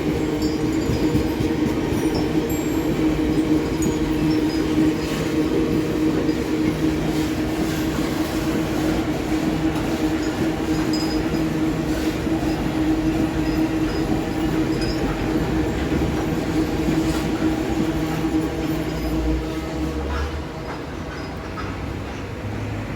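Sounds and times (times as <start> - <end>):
freight train rumbling past: 0.0 - 22.9.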